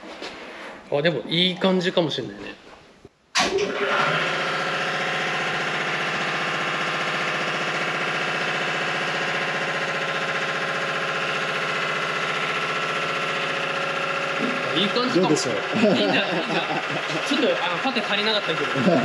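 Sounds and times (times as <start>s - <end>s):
shop machine buzzing hum: 3.4s - 19.0s.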